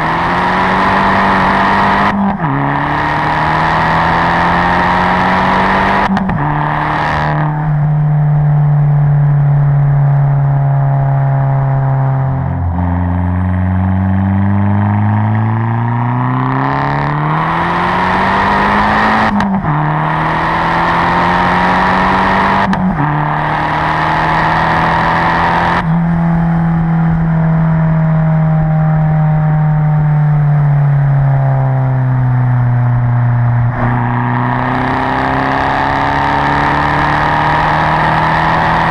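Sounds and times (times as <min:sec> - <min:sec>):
car engine accelerating through gears: 0:00.0 - 0:38.9.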